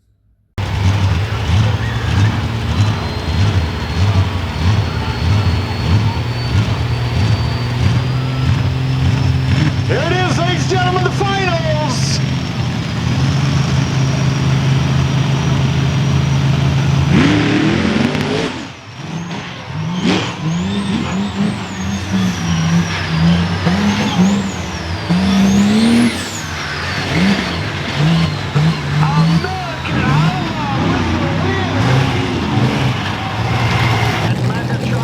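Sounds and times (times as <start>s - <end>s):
high whistle: 0.6s - 17.5s, 19.1s - 34.3s
monster truck engines revving: 0.6s - 35.0s.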